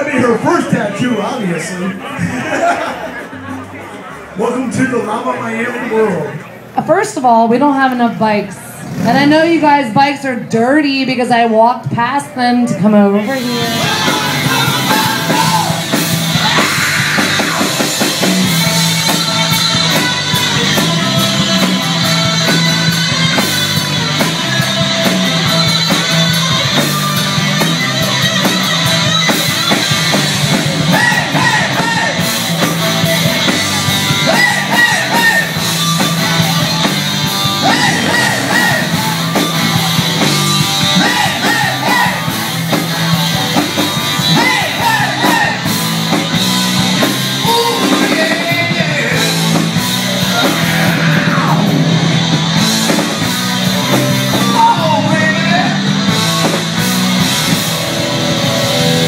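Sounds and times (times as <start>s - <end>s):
rock song with singing: 6.3s - 59.0s.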